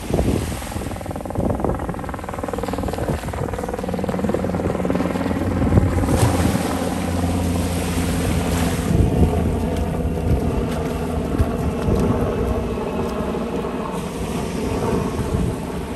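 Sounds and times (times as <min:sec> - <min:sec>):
small aircraft engine drone: 0:00.0 - 0:15.9
surf washing ashore: 0:00.0 - 0:15.9
wind buffeting microphone: 0:00.0 - 0:15.9.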